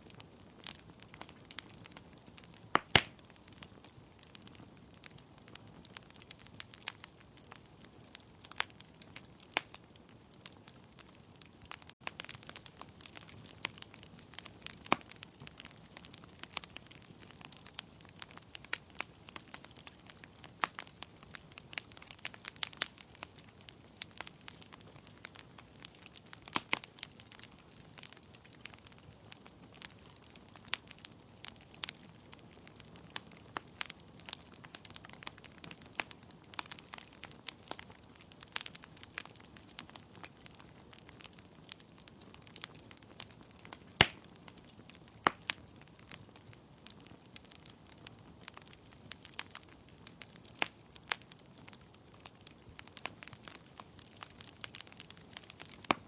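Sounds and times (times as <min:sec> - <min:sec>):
logs crackling and popping: 0:00.0 - 0:56.0.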